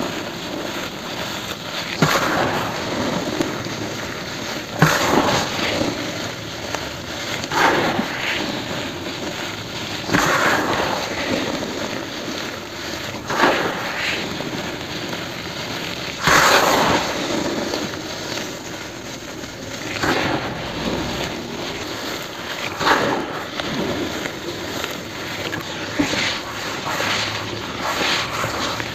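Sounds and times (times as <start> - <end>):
cement powder crunching: 0.0 - 28.9
grainy hiss: 0.0 - 28.9.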